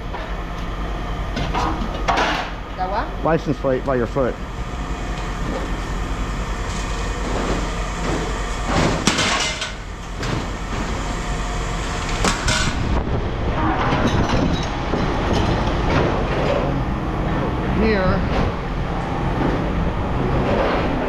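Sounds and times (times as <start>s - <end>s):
low machinery rumble: 0.0s - 21.0s.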